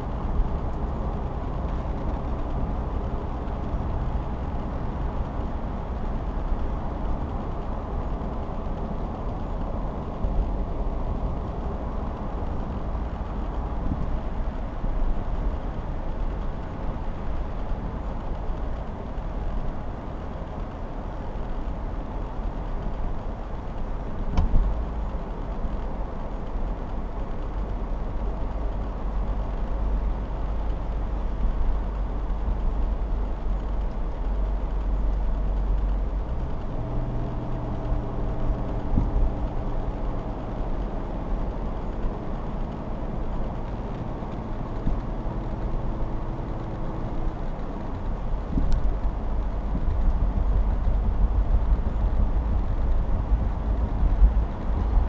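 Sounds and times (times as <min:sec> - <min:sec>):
road and engine noise in car: 0:00.0 - 0:55.0.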